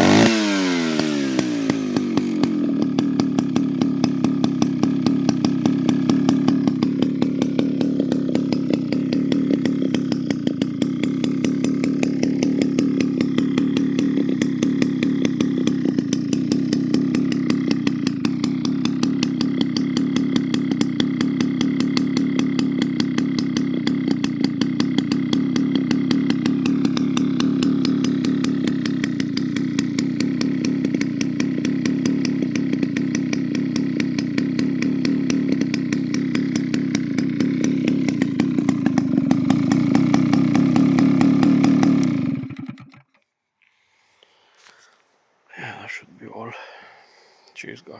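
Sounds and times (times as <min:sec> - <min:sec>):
chainsaw running: 0:00.0 - 0:47.9.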